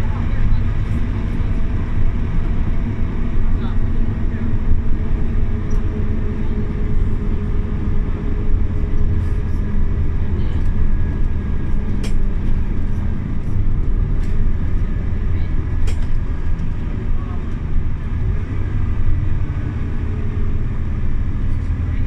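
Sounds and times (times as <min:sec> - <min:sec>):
bus diesel engine rumble: 0:00.0 - 0:22.0
interior rattles and clicks: 0:00.0 - 0:22.0
road noise: 0:00.0 - 0:22.0.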